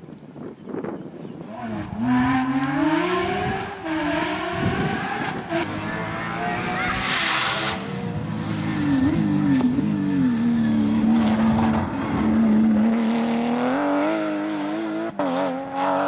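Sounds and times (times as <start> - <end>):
rally car engine revving: 1.5 - 16.0.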